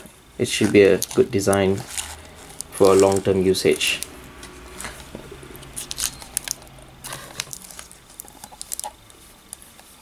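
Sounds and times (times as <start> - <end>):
plastic film crinkling: 0.4 - 10.0.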